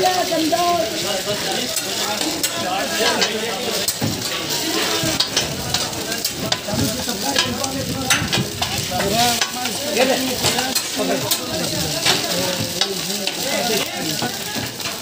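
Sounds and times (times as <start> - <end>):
eggs sizzling in oil: 0.0 - 15.0
metal spatula scraping griddle: 0.1 - 15.0.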